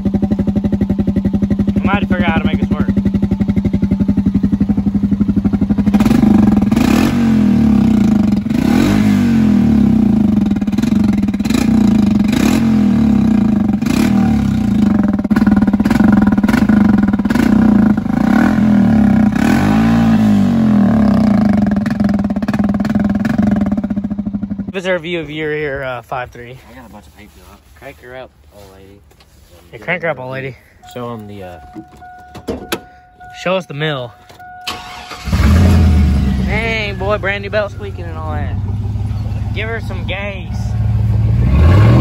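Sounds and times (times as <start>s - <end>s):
atv engine revving: 0.0s - 25.8s, 30.2s - 42.0s.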